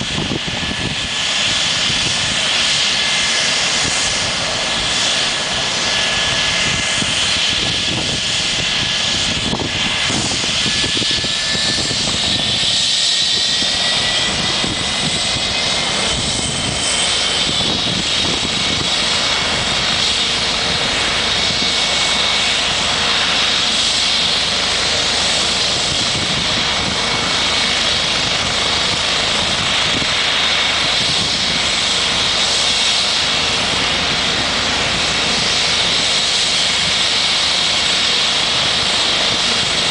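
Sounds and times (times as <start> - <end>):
helicopter turbine whine and rotor: 0.0 - 39.9.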